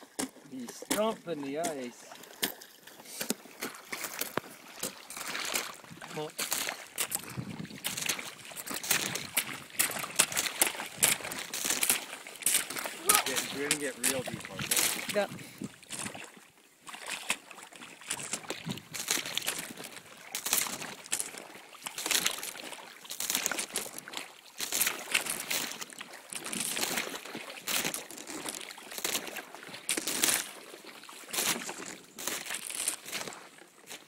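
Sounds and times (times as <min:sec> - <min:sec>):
boots splashing in puddle: 0:00.0 - 0:34.0.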